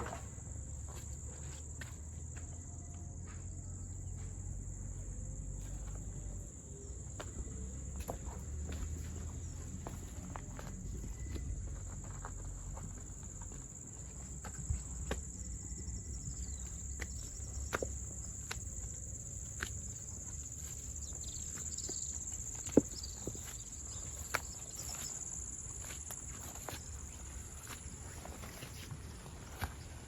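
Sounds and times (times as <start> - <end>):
footsteps on a path: 0.8 - 30.0.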